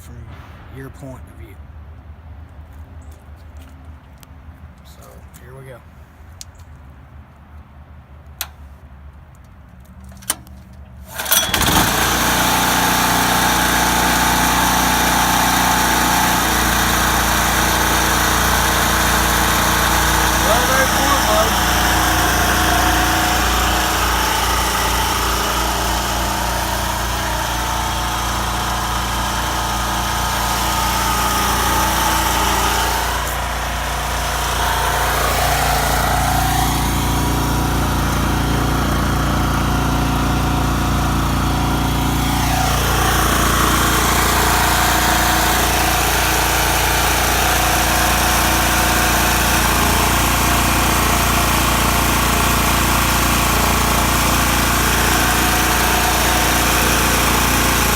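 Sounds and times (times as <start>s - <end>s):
generator engine running: 10.2s - 57.9s.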